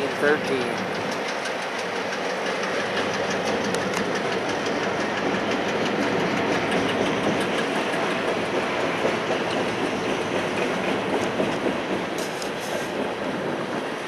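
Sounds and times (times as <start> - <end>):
train wheels rumbling on rail: 0.0 - 14.0
wheels clacking over rail joints: 0.0 - 14.0.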